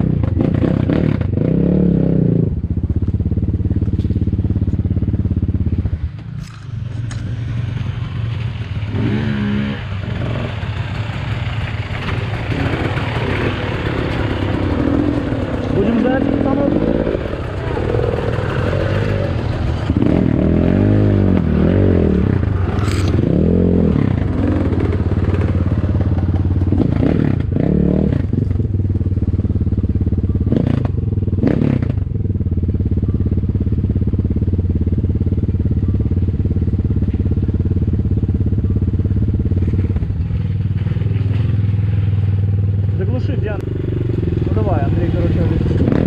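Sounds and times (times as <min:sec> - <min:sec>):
motorcycle engine revving and idling: 0:00.0 - 0:46.0.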